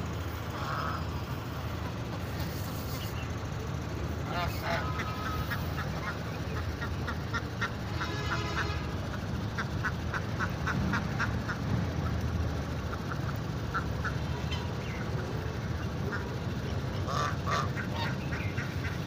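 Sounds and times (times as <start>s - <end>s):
ducks quacking: 0.4s - 3.2s, 4.2s - 19.0s.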